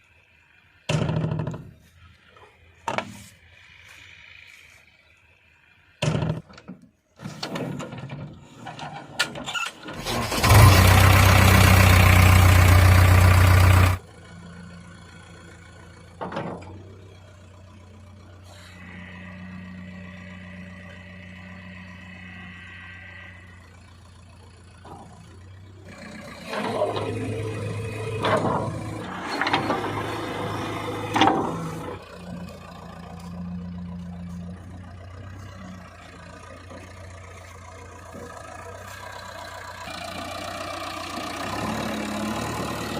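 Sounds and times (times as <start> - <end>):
diesel engine idling and revving: 0.0 - 7.2, 7.8 - 42.9.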